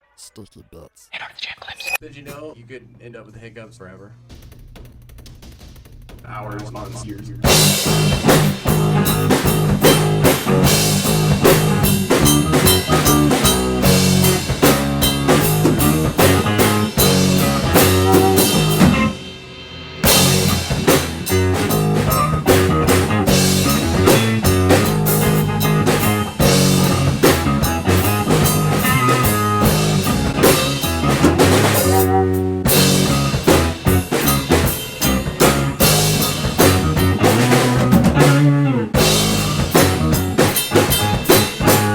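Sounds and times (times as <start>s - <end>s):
drum kit groove: 4.1s - 41.9s
guitar playing: 7.4s - 19.3s, 20.0s - 41.9s.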